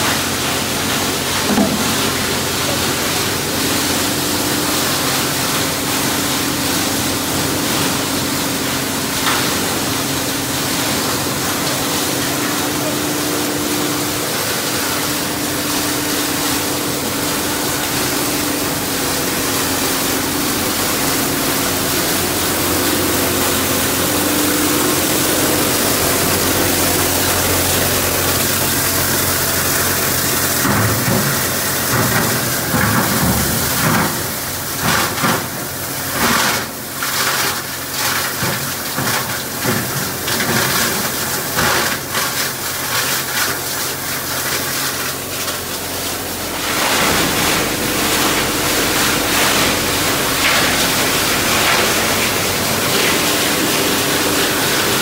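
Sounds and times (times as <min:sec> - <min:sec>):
recycling machine din with motor hum: 0:00.0 - 0:55.0.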